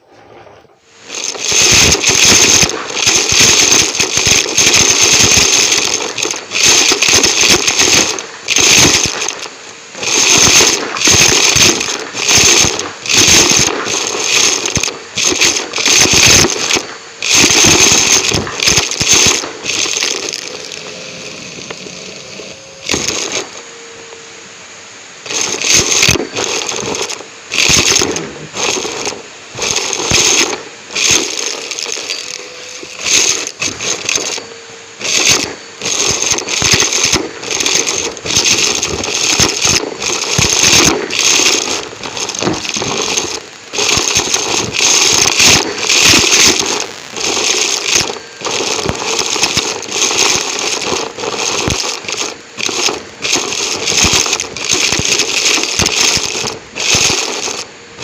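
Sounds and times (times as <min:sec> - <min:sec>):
debris crackling in vacuum: 0:00.8 - 0:24.2, 0:25.1 - 0:58.0
vacuum cleaner motor: 0:00.9 - 0:58.0.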